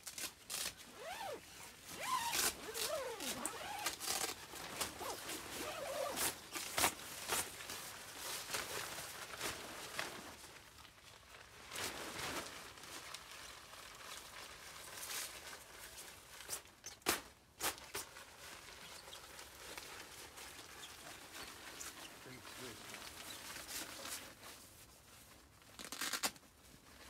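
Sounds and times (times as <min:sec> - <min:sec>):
tent fabric rustling and flapping: 0:00.0 - 0:27.0.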